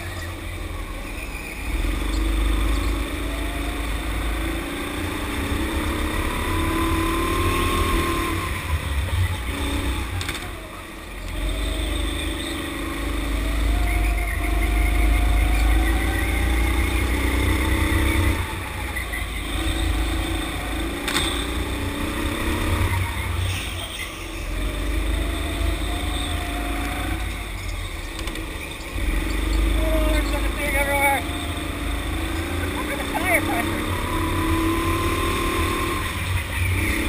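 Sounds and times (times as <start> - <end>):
go-kart engine revving: 0.0 - 37.0.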